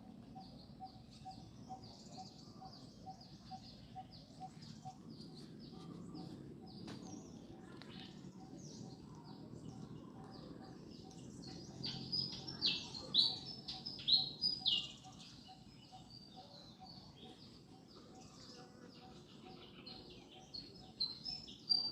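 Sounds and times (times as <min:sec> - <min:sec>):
birds chirping: 0:00.0 - 0:21.9
low steady background noise: 0:00.0 - 0:21.9.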